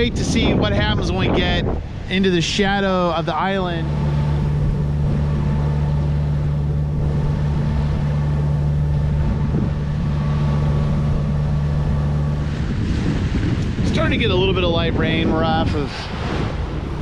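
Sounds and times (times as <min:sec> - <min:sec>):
boat engine humming: 0:00.0 - 0:17.0
water washing along hull: 0:00.0 - 0:17.0.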